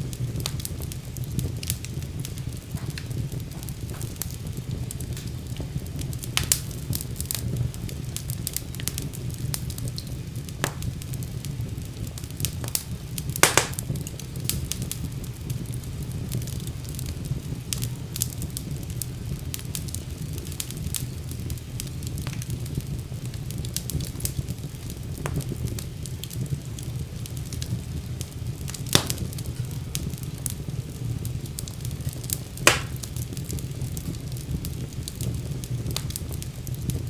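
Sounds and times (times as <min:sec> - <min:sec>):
fire crackling: 0:00.0 - 0:37.0
fire popping: 0:00.0 - 0:37.0
low rumble of flames: 0:00.0 - 0:37.0.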